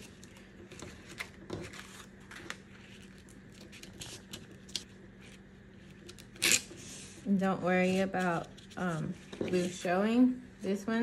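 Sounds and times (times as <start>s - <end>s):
crepe paper rustling and crinkling: 0.0s - 7.2s, 7.8s - 9.9s.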